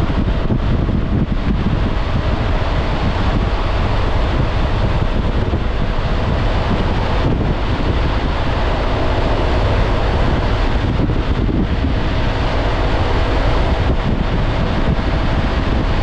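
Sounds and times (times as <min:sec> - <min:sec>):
scooter engine humming: 0:00.0 - 0:16.0
wind noise on microphone: 0:00.0 - 0:16.0.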